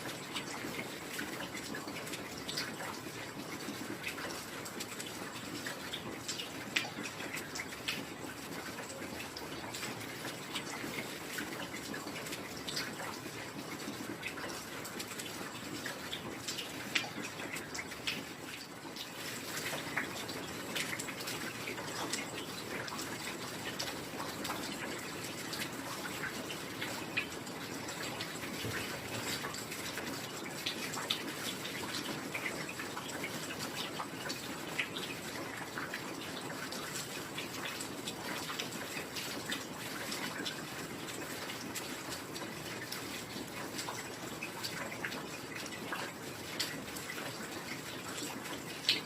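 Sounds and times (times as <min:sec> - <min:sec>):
drops spattering and dripping: 0:00.0 - 0:49.0.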